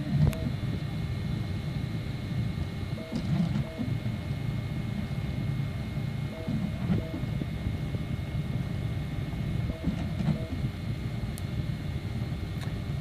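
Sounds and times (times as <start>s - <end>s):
printer stepper motors humming: 0.0s - 13.0s.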